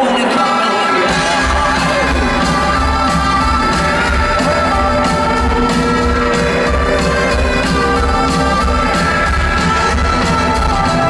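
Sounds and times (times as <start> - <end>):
rock band playing live: 0.0 - 11.0
sung vocal: 0.0 - 11.0
steady bass line: 0.6 - 11.0.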